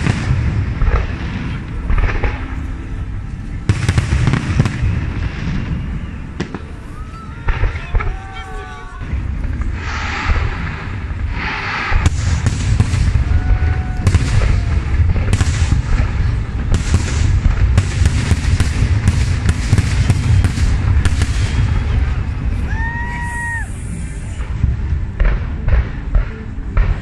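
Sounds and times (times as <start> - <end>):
deep rumble: 0.0 - 27.0
fireworks bangs: 0.0 - 27.0
fireworks hissing: 3.7 - 27.0.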